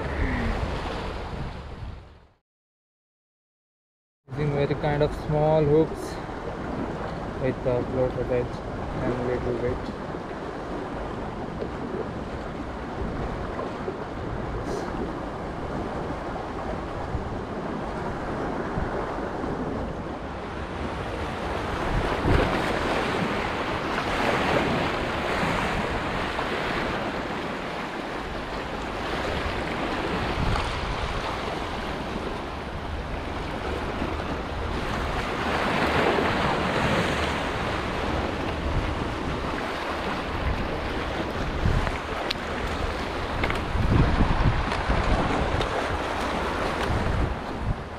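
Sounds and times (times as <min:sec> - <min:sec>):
wind on microphone: 0:00.0 - 0:02.3, 0:05.8 - 0:47.9
sea waves breaking on rocks: 0:05.7 - 0:47.9.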